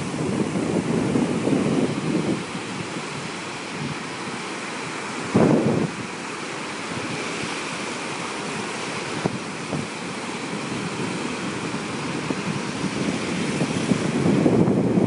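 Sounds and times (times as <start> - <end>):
surf waves breaking on beach: 0.0 - 15.0.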